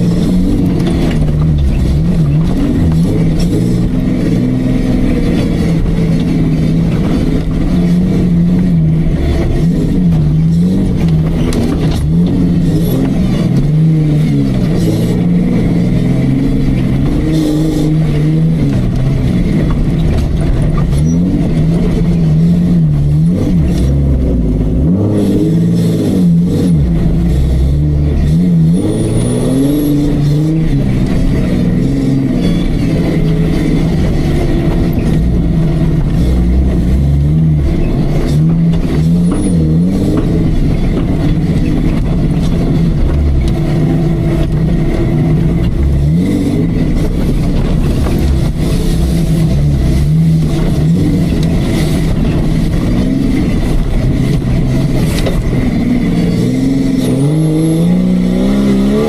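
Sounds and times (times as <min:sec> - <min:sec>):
engine revving under load: 0:00.0 - 0:59.0.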